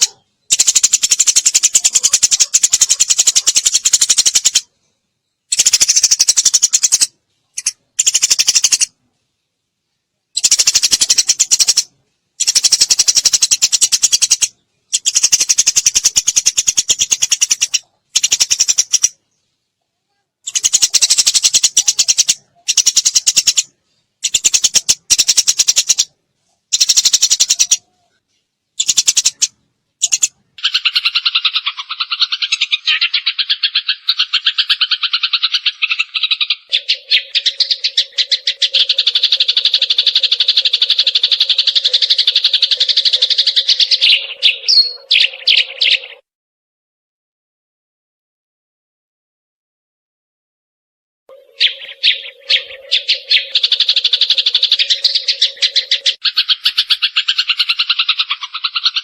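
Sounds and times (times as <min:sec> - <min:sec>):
sparrow chattering chirps: 0:00.0 - 0:04.7, 0:05.5 - 0:09.0, 0:10.3 - 0:19.2, 0:20.4 - 0:26.1, 0:26.7 - 0:28.2, 0:28.8 - 0:46.2, 0:51.3 - 0:59.0.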